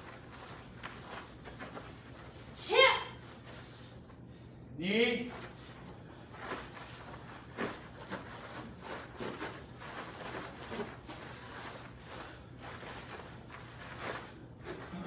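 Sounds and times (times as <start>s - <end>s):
uniforms swishing: 0.0s - 4.1s, 5.2s - 15.0s
steady low hum: 0.0s - 15.0s.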